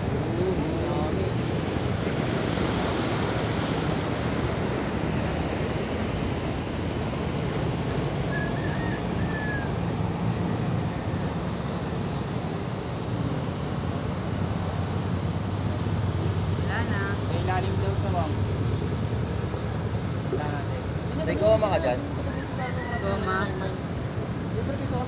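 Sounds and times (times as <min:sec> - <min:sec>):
waves lapping against riverbank: 0:00.0 - 0:22.7
low engine hum: 0:00.0 - 0:25.0.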